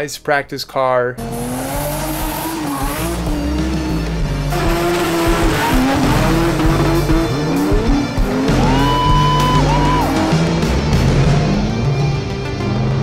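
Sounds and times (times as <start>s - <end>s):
background music: 0.0s - 13.0s
car engines revving: 1.2s - 13.0s.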